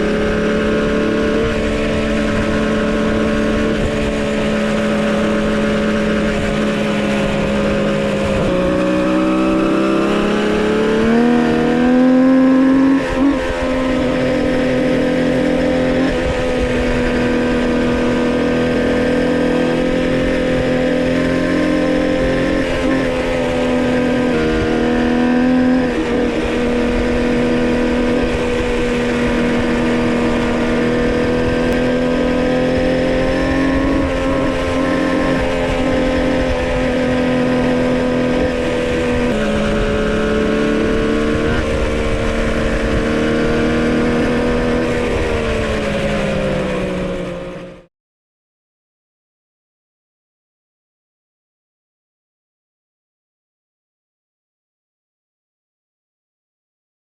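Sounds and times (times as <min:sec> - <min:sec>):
two-stroke motorcycle engine running: 0:00.0 - 0:47.9.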